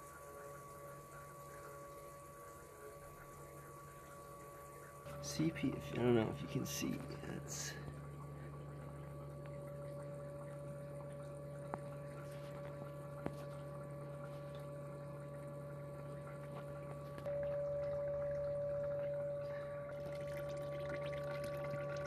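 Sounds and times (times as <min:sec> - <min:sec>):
small electric pump humming: 0:00.0 - 0:22.0
oil trickling: 0:01.4 - 0:22.0.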